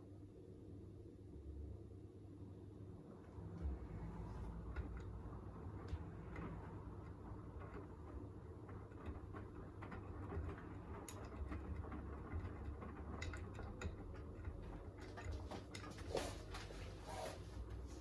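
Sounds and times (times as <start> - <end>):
washing machine humming: 1.4 - 18.0.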